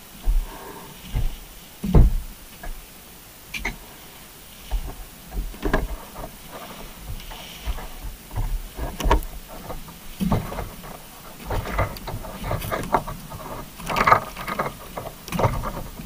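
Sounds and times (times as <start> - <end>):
underwater knocks and scrapes: 0.1 - 2.8, 4.5 - 16.0.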